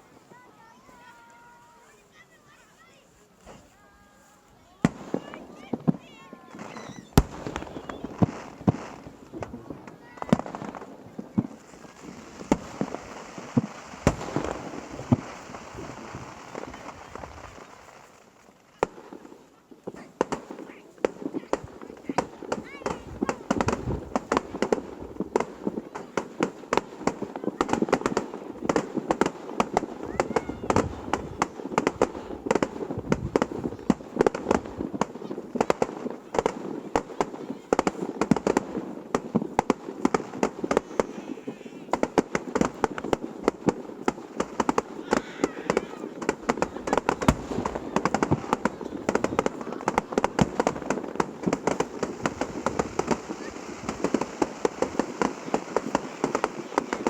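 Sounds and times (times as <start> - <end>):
fireworks bangs and pops: 0.0 - 57.0
fireworks crackling: 0.0 - 57.0.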